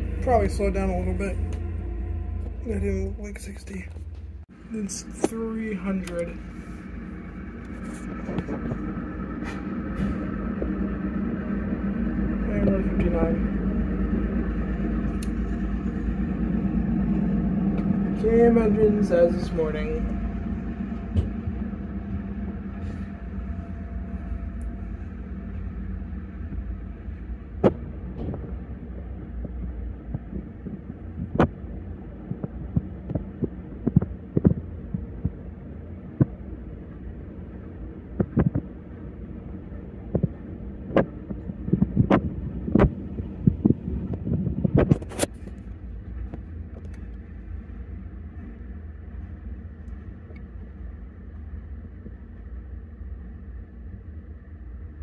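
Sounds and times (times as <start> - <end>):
freight train rumbling on rails: 0.0 - 52.5.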